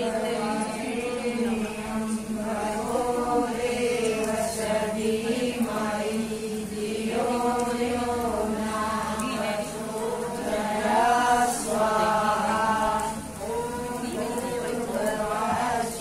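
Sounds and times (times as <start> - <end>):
group chanting in unison: 0.0 - 16.0.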